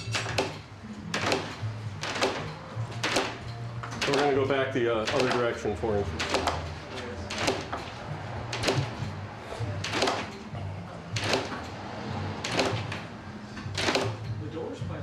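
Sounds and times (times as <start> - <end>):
garage door creaking clunk: 0.0 - 9.2, 9.8 - 14.4.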